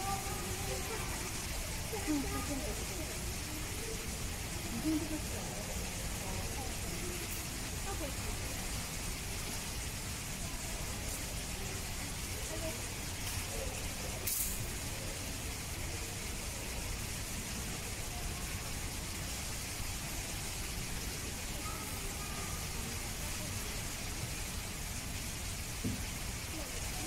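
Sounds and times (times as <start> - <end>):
distant voices: 0.0 - 27.0
steady background noise: 0.0 - 27.0.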